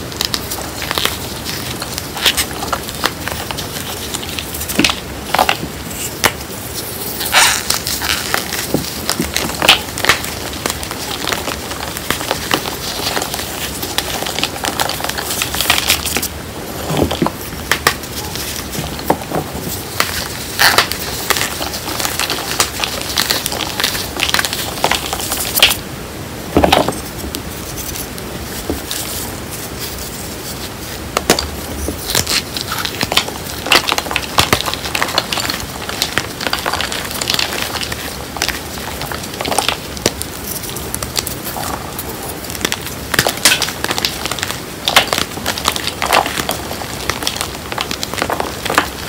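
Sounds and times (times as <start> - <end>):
hands crunching chalk chunks: 0.0 - 25.8, 26.5 - 49.0.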